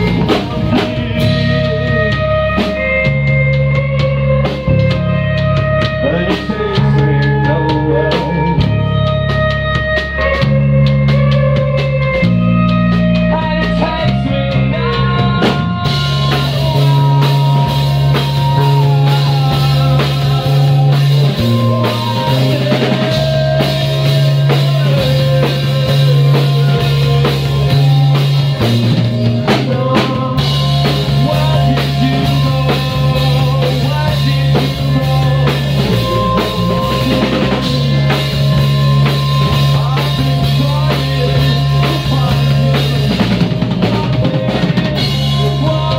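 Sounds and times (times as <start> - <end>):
bass line: 0.0 - 45.9
drum kit: 0.0 - 45.9
electric guitar lead: 0.0 - 45.9.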